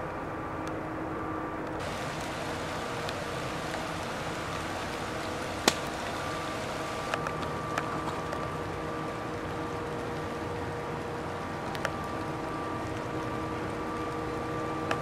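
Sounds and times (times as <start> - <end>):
light rain falling: 1.7 - 15.0.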